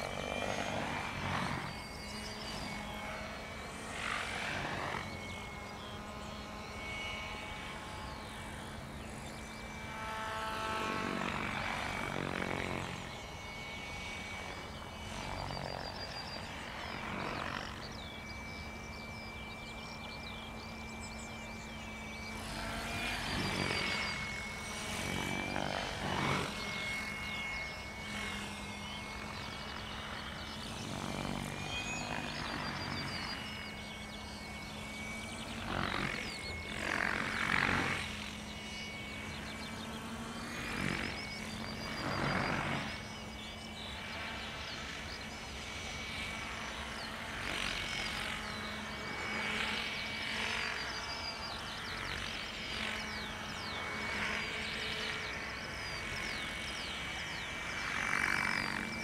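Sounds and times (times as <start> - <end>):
high whine of helicopter motor: 0.0 - 59.0.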